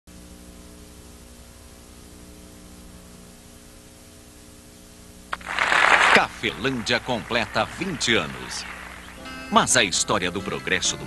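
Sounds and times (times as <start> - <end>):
mains hum: 0.1 - 11.0
tape hiss: 0.1 - 11.0.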